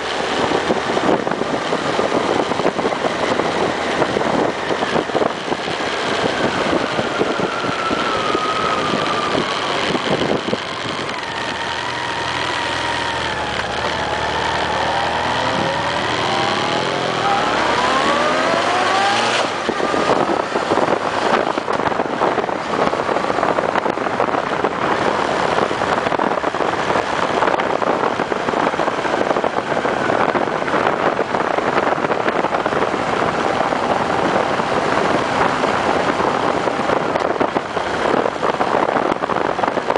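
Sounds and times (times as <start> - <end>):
motorcycle engine: 0.0 - 39.9
wind rushing on microphone: 0.0 - 39.9.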